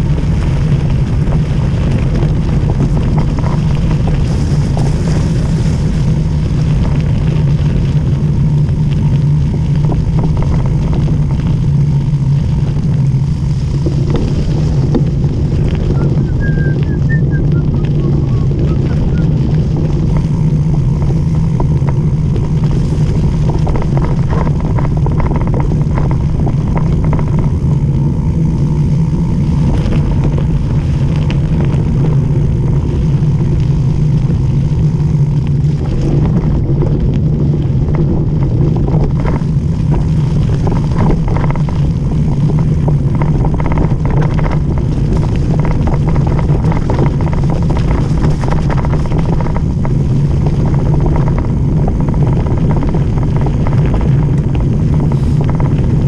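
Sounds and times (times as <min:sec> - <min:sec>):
bike and mount rattling: 0:00.0 - 0:56.0
bike tyres on gravel: 0:00.0 - 0:56.0
wind on microphone: 0:00.0 - 0:56.0.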